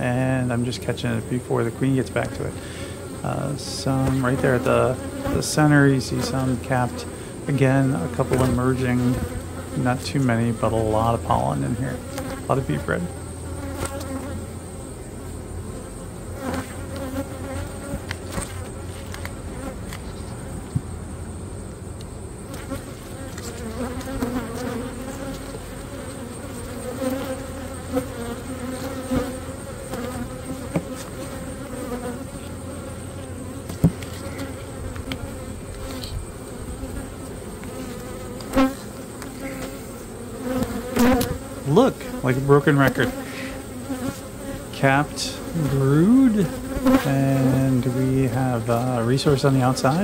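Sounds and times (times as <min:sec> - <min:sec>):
bees buzzing: 0:00.0 - 0:50.0.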